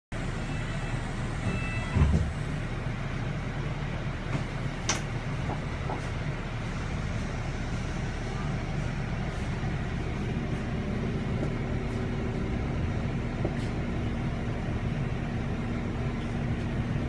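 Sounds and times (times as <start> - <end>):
bus engine rumbling: 0.1 - 17.0.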